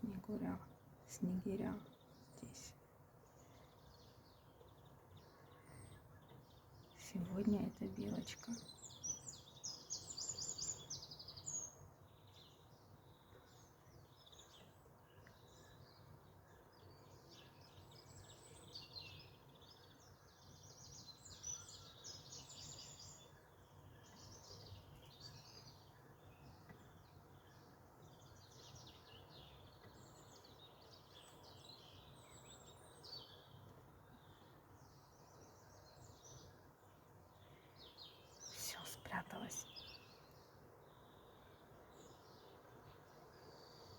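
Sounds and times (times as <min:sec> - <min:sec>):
small songbirds chirping: 0:00.0 - 0:43.9.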